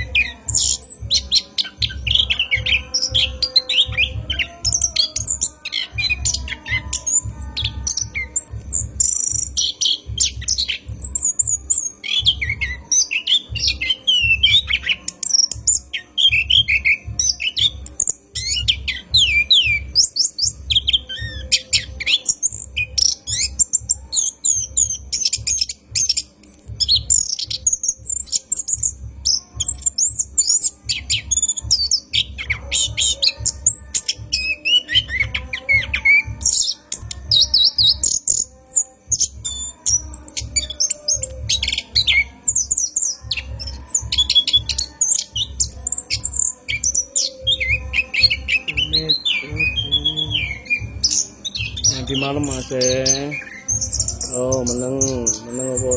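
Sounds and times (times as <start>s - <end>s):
thrush singing: 0.0s - 55.9s.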